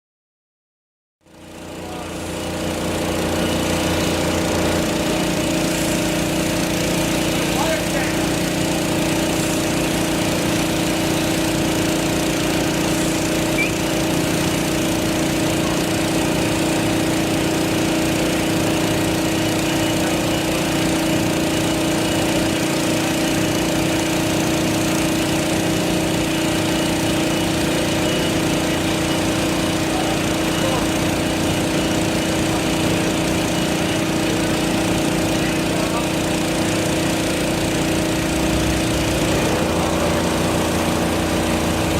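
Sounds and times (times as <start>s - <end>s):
engine humming steadily: 1.2s - 41.9s.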